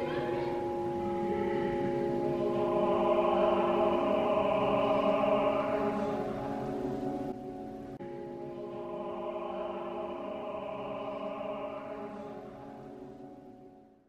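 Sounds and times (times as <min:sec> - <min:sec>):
slow sustained chords music: 0:00.0 - 0:14.0.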